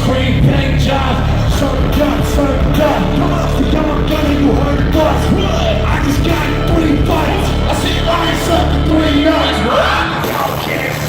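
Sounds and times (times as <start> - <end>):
amplified vocals: 0.0 - 11.0
loud live concert music: 0.0 - 11.0.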